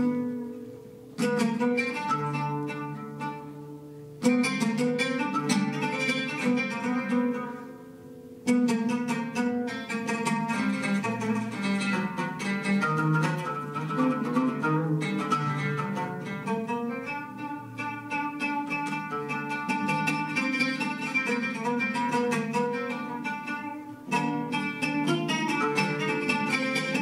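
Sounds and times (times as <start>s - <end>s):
oud plucked: 0.0s - 27.0s.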